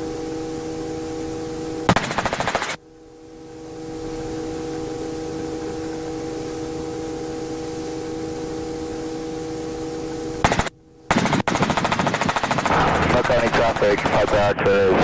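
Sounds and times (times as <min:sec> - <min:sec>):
faint steady hum tones: 0:00.0 - 0:15.0
radio static hiss: 0:00.0 - 0:15.0.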